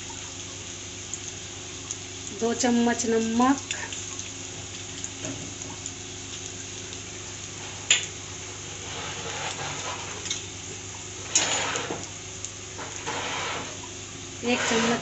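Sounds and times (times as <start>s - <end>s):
spices sizzling in oil: 0.0s - 15.0s.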